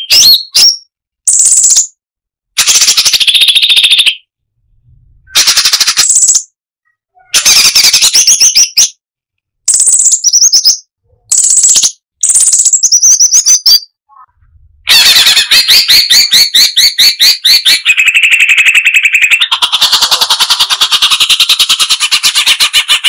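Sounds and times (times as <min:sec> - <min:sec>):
bird singing rapid repeated notes: 0:00.0 - 0:02.0, 0:02.6 - 0:09.0, 0:09.6 - 0:23.0.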